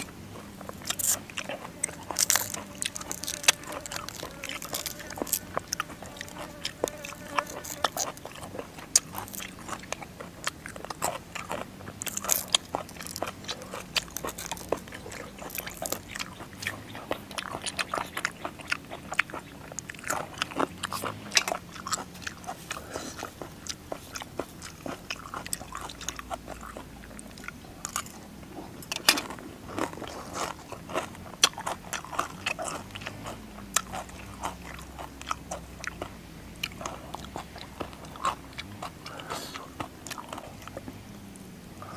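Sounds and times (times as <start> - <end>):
crunching raw vegetables: 0.0 - 41.9.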